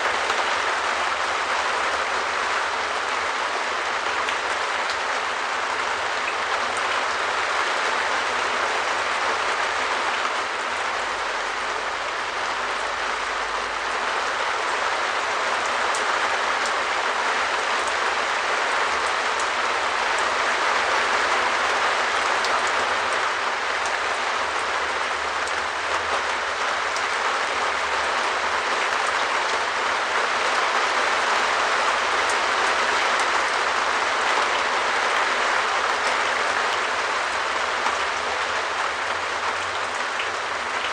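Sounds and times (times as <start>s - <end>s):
rain on a shed roof: 0.0s - 40.9s.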